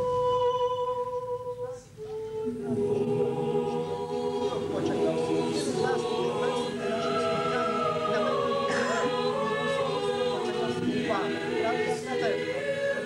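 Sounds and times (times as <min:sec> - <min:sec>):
choir singing a chant: 0:02.2 - 0:13.0.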